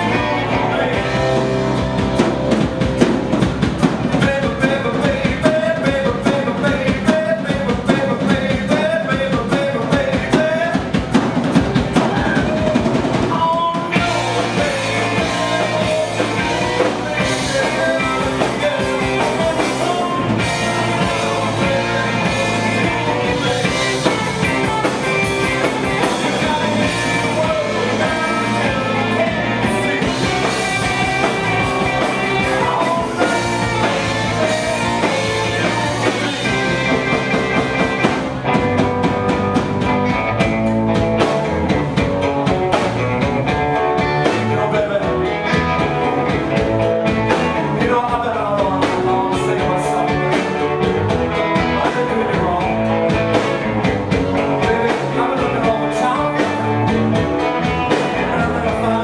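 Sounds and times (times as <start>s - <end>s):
man singing: 0.0s - 1.9s, 3.8s - 38.7s, 42.3s - 59.0s
bass guitar: 0.0s - 59.0s
drum kit: 0.0s - 59.0s
electric guitars: 0.0s - 59.0s.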